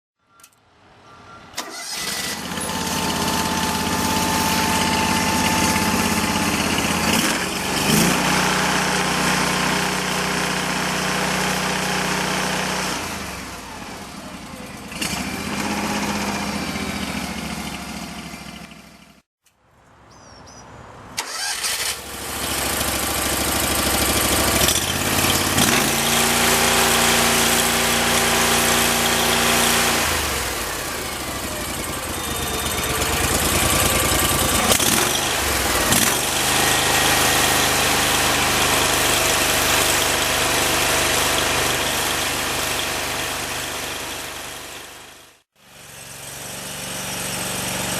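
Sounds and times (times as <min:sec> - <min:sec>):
backhoe engine running: 0:01.6 - 0:19.2, 0:21.2 - 0:47.9.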